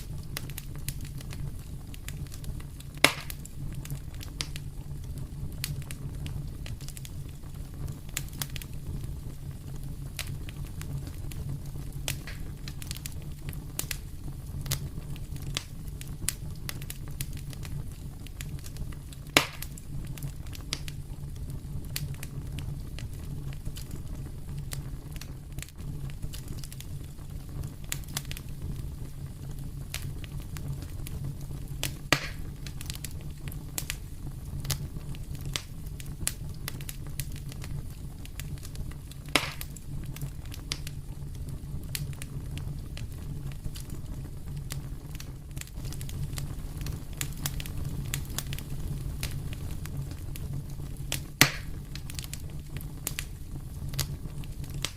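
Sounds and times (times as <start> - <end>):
fire popping: 0.0 - 54.9
fireplace fire crackling: 0.0 - 54.9.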